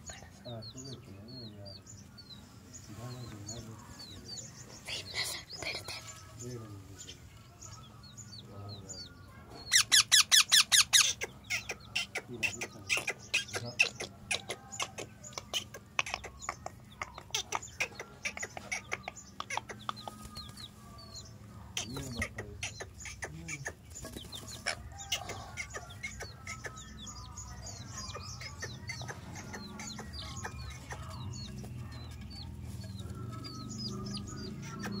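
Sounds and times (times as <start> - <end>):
chick peeping: 0.0 - 35.0
parakeets calling: 0.0 - 35.0.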